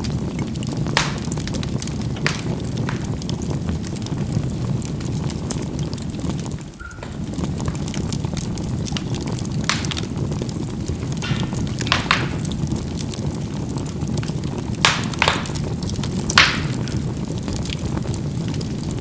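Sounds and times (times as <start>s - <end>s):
charcoal fire rushing: 0.0s - 19.0s
coals crackling and popping: 0.0s - 19.0s.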